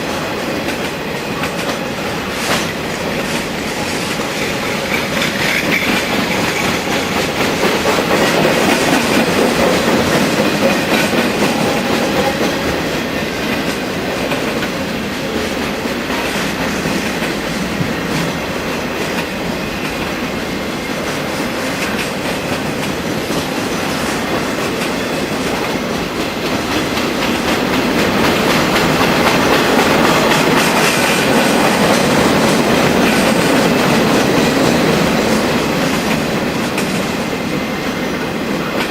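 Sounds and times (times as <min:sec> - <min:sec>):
freight train passing: 0:00.0 - 0:38.9
wheels clacking over rail joints: 0:00.0 - 0:38.9.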